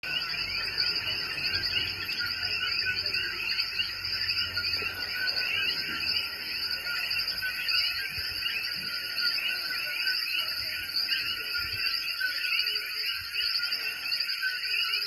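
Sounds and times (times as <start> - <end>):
frogs chirping: 0.0 - 15.0
insects chirping: 0.0 - 15.0.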